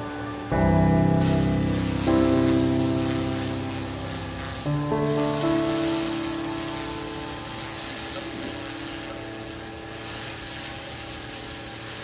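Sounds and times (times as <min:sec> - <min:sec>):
laser cleaner hiss: 0:01.2 - 0:12.0.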